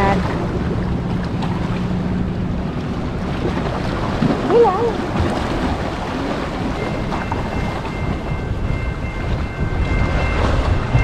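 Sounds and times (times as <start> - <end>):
boat traffic rumble: 0.0 - 11.0
wind buffeting microphone: 0.0 - 11.0.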